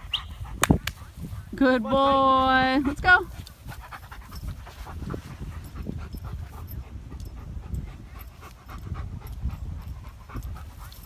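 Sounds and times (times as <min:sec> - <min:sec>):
dog panting: 0:00.1 - 0:11.0.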